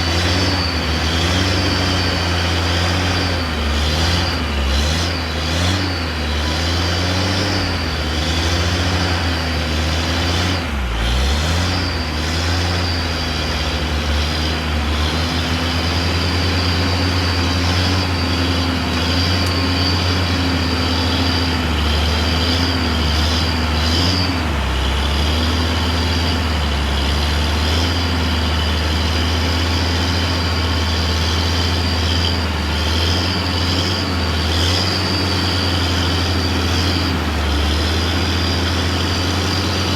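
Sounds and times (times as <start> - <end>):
heavy truck engine labouring: 0.0 - 39.9
steady high whine: 0.0 - 39.9.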